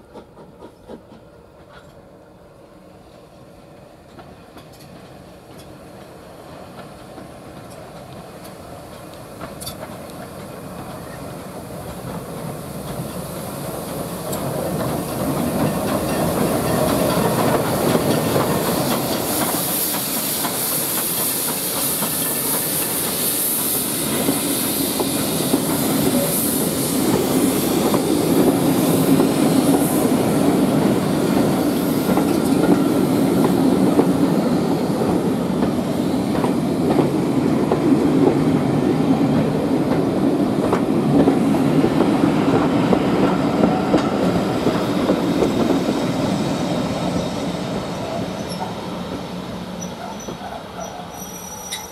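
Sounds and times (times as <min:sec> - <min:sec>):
train wheels clickety-clack: 0:00.0 - 0:02.1, 0:04.0 - 0:51.9
steam locomotive passing: 0:00.0 - 0:51.9
hiss of steam: 0:05.2 - 0:51.9.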